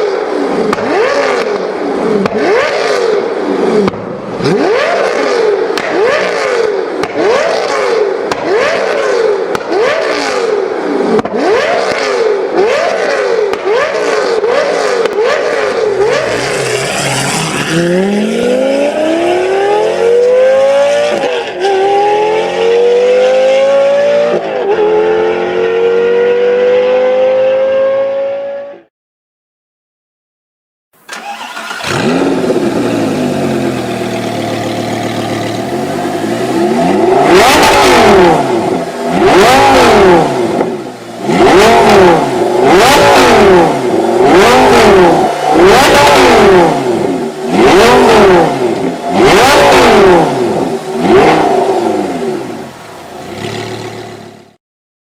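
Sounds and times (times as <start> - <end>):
sports car engine revving: 0.0 - 28.6, 31.0 - 54.6.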